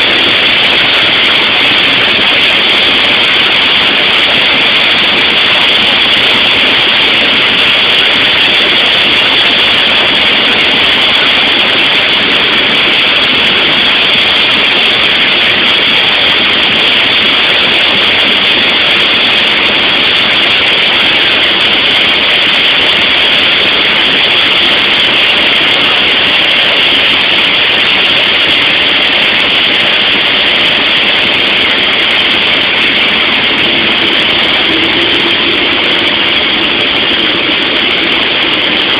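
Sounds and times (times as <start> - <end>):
airplane cabin engine and wind drone: 0.0 - 38.9.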